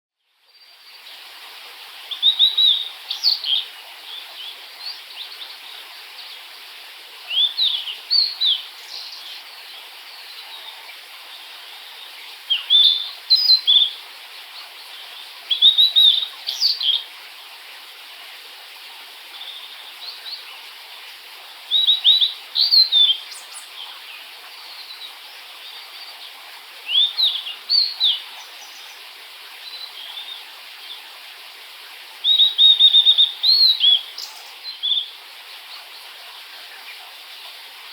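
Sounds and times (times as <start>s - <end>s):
background hiss: 0.2s - 37.9s.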